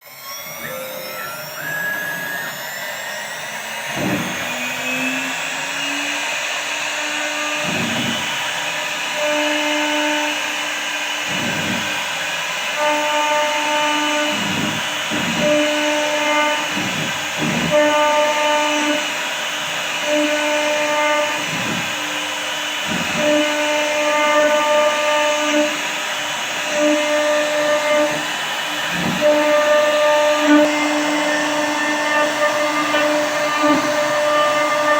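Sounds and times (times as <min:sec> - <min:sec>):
cnc router motor whine: 0:00.0 - 0:34.9
stepping-motor tones: 0:00.0 - 0:34.9.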